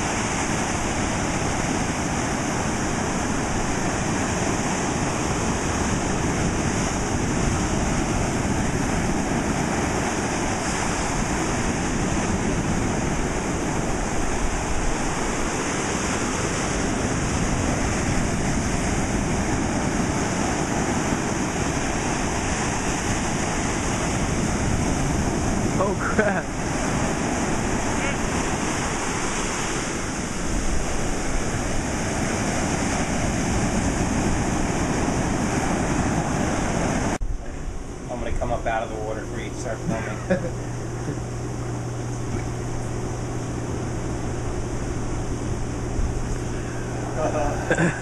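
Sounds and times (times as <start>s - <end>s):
waves breaking: 0.0s - 48.0s.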